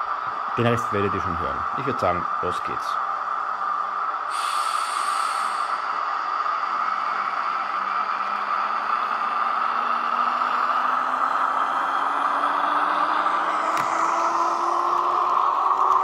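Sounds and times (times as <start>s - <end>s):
electric train motor hum rising: 0.0s - 16.0s.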